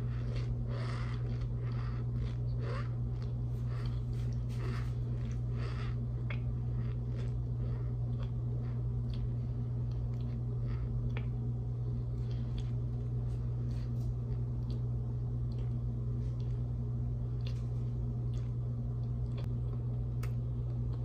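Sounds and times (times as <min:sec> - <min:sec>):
chewing with soft crunching: 0:00.0 - 0:21.0
steady low hum: 0:00.0 - 0:21.0.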